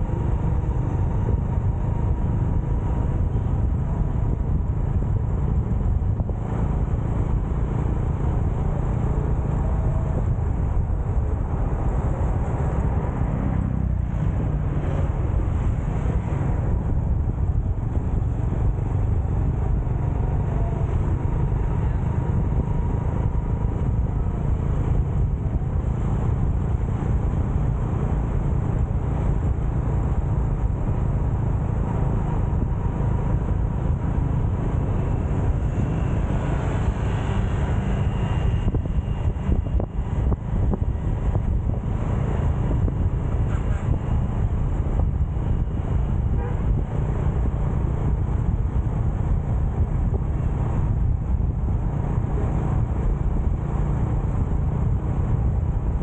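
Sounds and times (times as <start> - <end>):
road noise: 0.0 - 56.0
wind buffeting microphone: 0.0 - 56.0.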